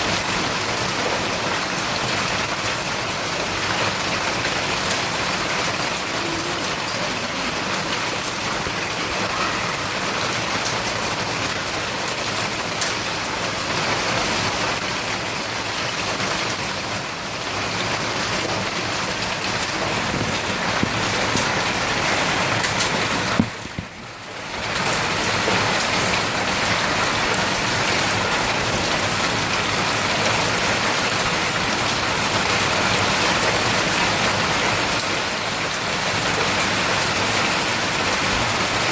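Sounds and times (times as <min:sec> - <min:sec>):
hailstones pounding on roofs: 0:00.1 - 0:38.9.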